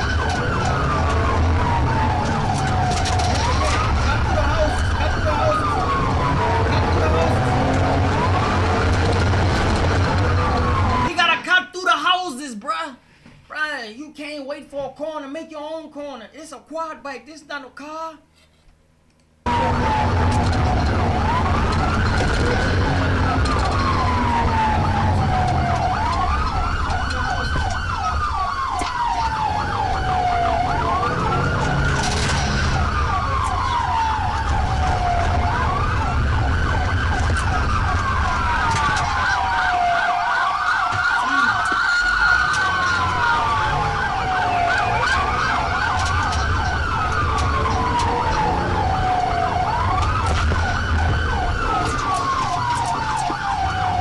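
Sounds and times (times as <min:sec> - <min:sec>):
car engine running: 0:00.0 - 0:11.1, 0:19.5 - 0:54.0
warbling siren tone: 0:00.0 - 0:11.1, 0:19.5 - 0:54.0
police siren wailing: 0:00.0 - 0:11.4, 0:19.4 - 0:54.0.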